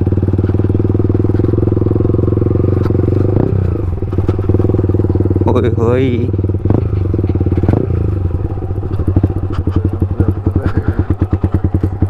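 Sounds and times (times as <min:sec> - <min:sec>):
motorcycle exhaust at low revs: 0:00.0 - 0:12.0.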